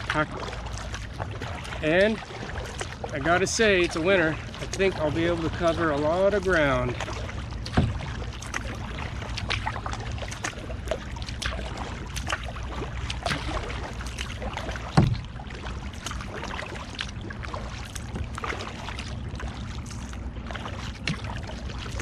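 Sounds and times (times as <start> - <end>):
low rumble of wind and water: 0.0 - 22.0
paddle splashing in water: 0.0 - 22.0
water lapping at the hull: 0.0 - 22.0.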